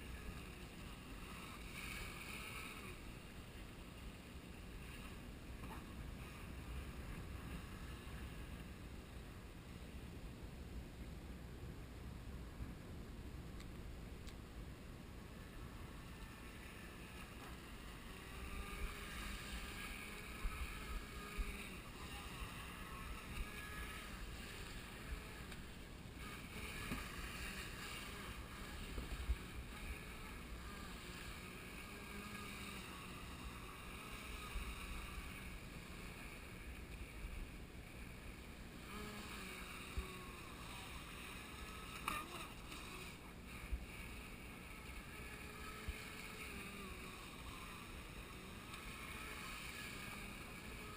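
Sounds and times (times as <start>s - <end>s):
wind rumbling on microphone: 0.0s - 41.9s
faint electric motor whine: 0.0s - 50.9s.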